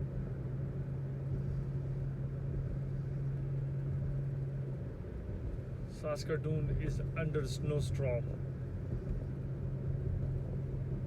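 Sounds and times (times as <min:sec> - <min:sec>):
car engine hum: 0:00.0 - 0:11.0
road noise rumble: 0:00.0 - 0:11.0.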